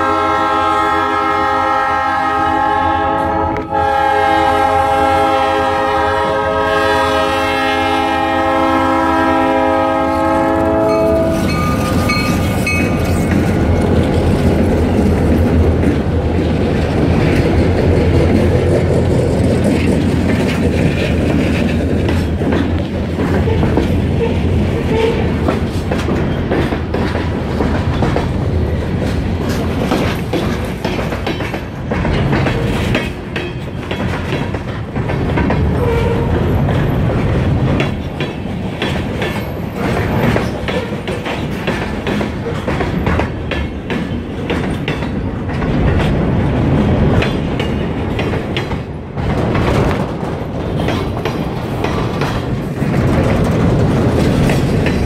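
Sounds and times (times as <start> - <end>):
low train rumble: 0.0 - 55.0
train wheels clattering over joints: 10.7 - 55.0.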